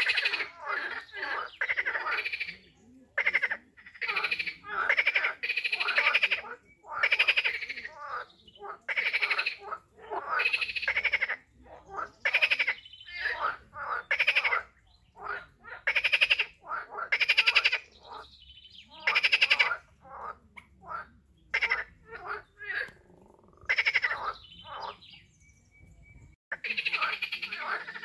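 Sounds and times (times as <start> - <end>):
quieter frog calls: 0.0 - 25.0, 26.5 - 28.0
frogs croaking: 0.0 - 25.3, 26.5 - 28.0.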